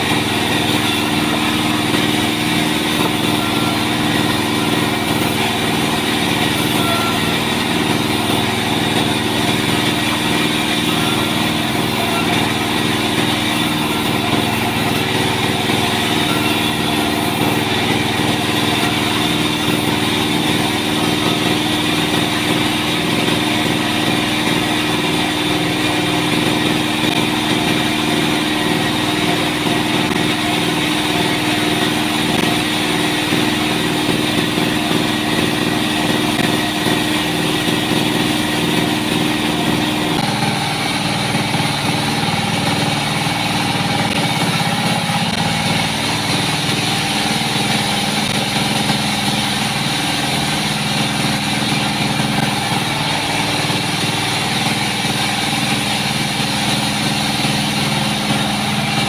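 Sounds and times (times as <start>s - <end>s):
band saw humming: 0.0s - 59.0s.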